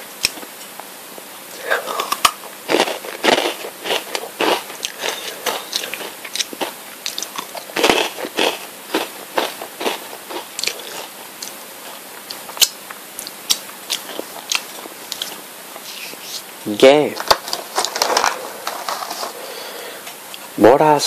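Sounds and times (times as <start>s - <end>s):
crunching potato sticks: 0.1s - 0.7s, 1.7s - 16.5s, 17.1s - 19.4s.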